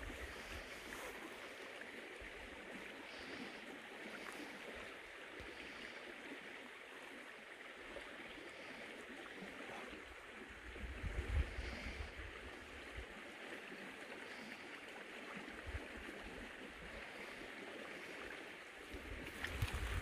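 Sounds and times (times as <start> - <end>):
flowing stream: 0.0 - 20.0.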